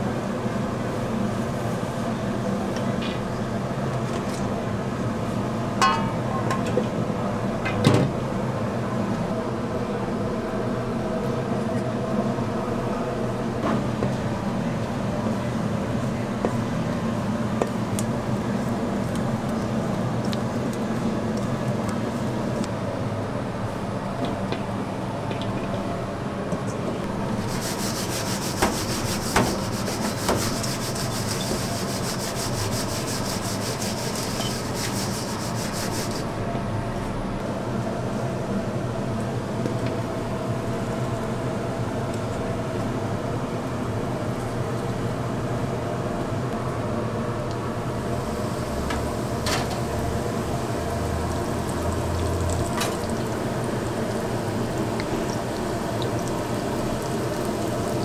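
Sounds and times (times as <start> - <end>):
low kitchen hum: 0.0 - 58.0.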